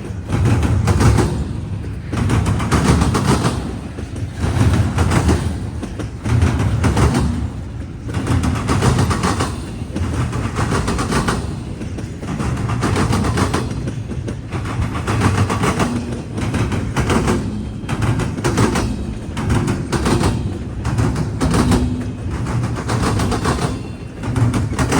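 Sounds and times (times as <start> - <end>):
train wheels clattering over crossing: 0.0 - 24.9.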